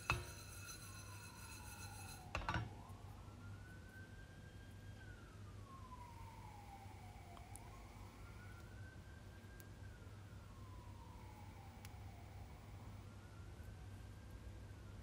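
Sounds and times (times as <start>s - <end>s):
faint siren wailing: 0.0s - 15.0s.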